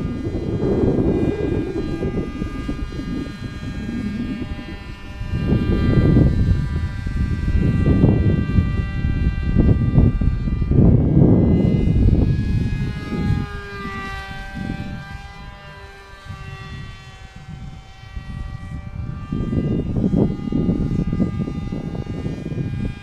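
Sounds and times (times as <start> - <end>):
model plane motor whining: 0.0 - 23.0
wind rumble on microphone: 0.0 - 23.0.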